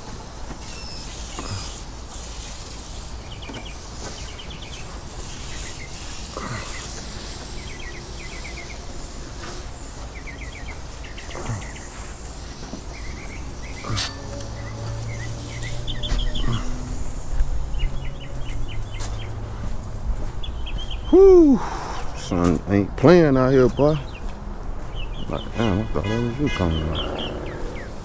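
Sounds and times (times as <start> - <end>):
high insect hiss: 0.0 - 20.1, 25.5 - 28.0
birds chirping: 0.0 - 28.0.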